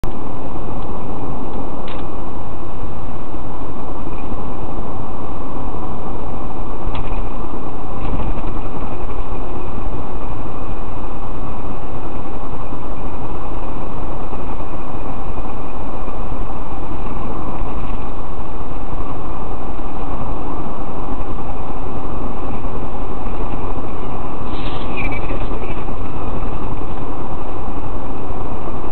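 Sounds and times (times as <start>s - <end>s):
road and engine noise in car: 0.0s - 28.9s.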